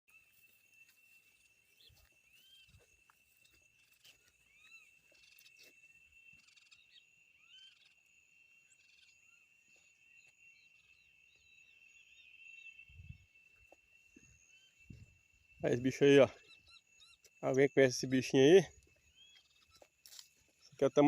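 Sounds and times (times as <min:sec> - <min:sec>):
high insect drone: 0:00.1 - 0:21.0.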